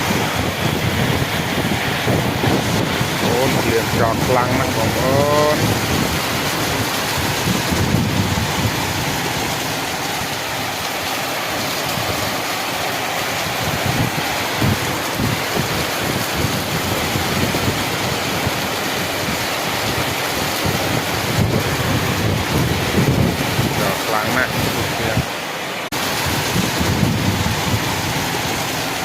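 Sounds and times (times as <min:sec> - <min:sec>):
heavy rain: 0:00.0 - 0:29.0
low rumbles: 0:00.0 - 0:29.0.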